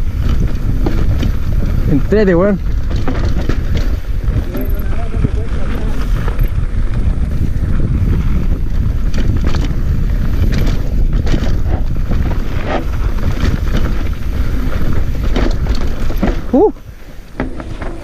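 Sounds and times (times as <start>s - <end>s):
bike rattles and clicks: 0.0s - 18.0s
bike tyres rumbling on dirt: 0.0s - 18.0s
wind rush on microphone: 0.0s - 18.0s.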